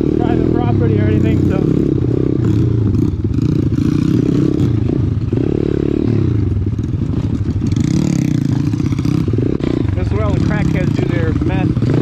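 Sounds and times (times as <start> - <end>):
small motorcycle engine revving: 0.0 - 12.0.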